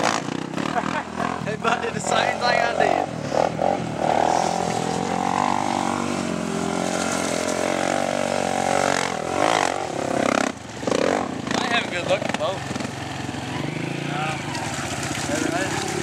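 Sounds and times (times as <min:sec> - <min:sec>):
quad engine under throttle: 0:00.0 - 0:16.0.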